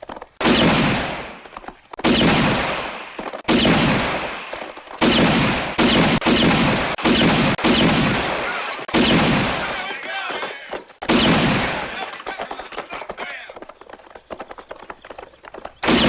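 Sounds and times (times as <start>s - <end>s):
echoing gunshots: 0.4s - 16.0s.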